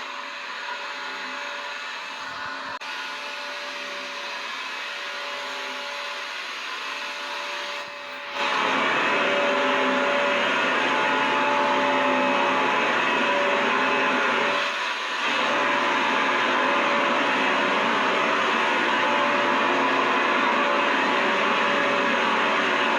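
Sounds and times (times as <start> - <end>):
vacuum cleaner motor running: 0.0 - 22.9.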